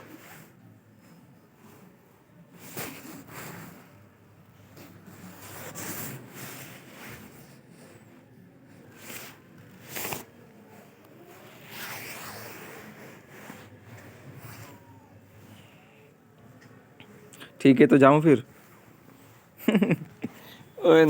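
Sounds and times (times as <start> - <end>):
close rustling and rubbing: 0.0 - 21.0.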